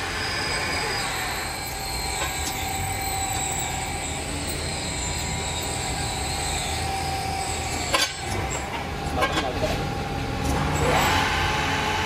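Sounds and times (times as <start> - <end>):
machinery motor humming and whining: 0.0 - 12.0.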